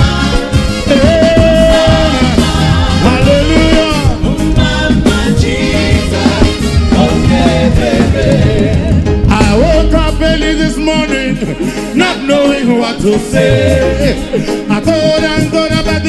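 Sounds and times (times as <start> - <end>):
man singing: 0.0 - 16.0
reggae band playing: 0.0 - 16.0.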